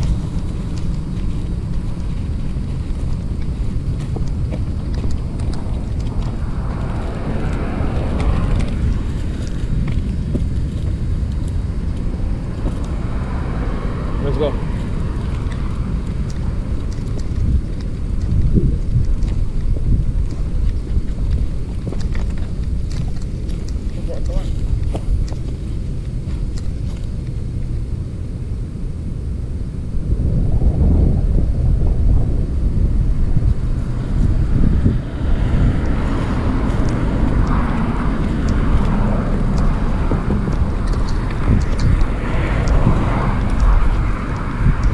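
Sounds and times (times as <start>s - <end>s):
car passing: 0.0s - 44.9s
steady low traffic rumble: 0.0s - 44.9s
wind buffeting microphone: 0.0s - 44.9s.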